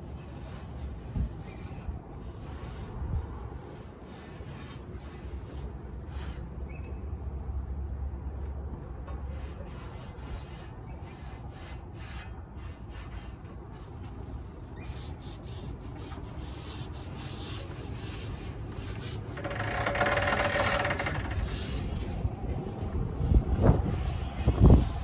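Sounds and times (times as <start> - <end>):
hand scraping on tyre rim: 0.0 - 6.9, 9.0 - 25.0.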